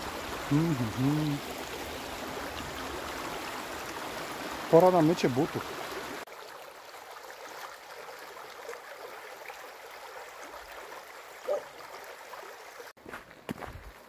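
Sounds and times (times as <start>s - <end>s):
stream flowing over stones: 0.0s - 14.0s.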